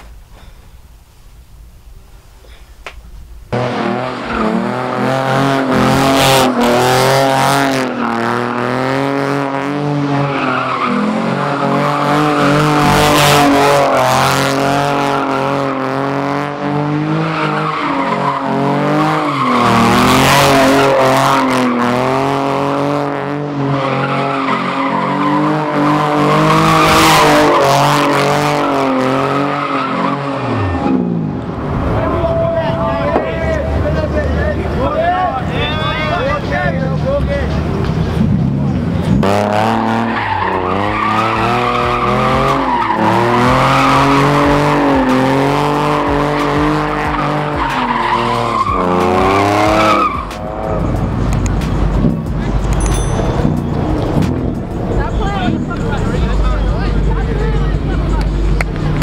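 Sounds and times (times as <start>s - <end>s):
car engine at high revs: 3.5s - 32.0s, 37.3s - 59.0s
tires squealing: 3.5s - 59.0s.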